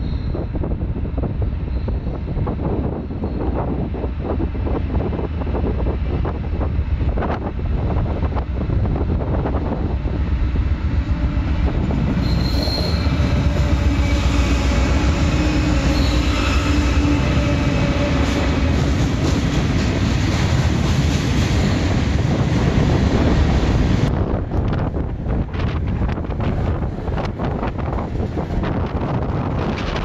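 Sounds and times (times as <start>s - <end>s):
train wheel and rail noise: 0.0s - 30.0s.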